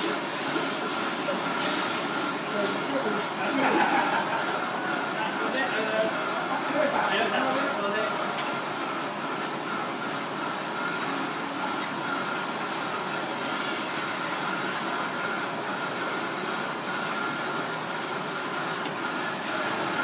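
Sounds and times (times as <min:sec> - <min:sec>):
mechanical hiss and hum: 0:00.0 - 0:20.0.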